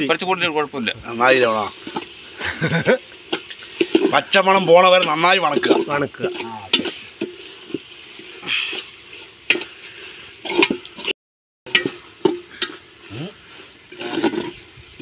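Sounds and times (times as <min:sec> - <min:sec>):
onions sizzling in oil: 0:00.0 - 0:11.1, 0:11.7 - 0:15.0
metal ladle scraping a pot: 0:01.4 - 0:02.4, 0:03.0 - 0:11.1, 0:11.7 - 0:15.0.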